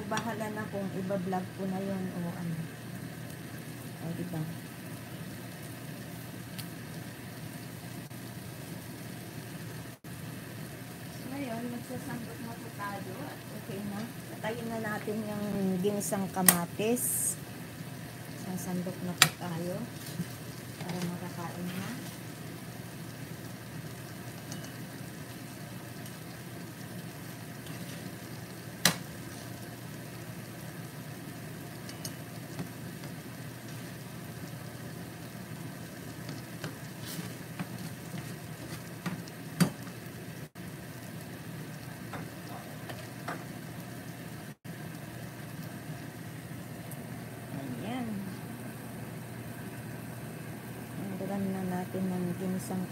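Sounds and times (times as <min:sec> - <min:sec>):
food sizzling in frying pan: 0:00.0 - 0:52.9
steady low hum: 0:00.0 - 0:52.9.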